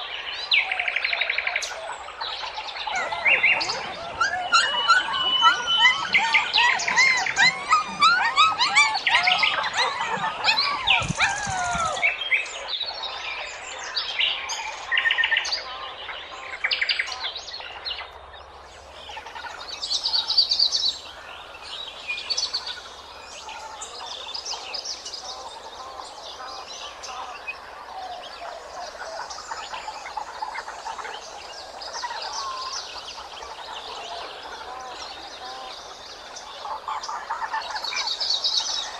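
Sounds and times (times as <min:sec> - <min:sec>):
birds chirping and calling: 0:00.0 - 0:38.9.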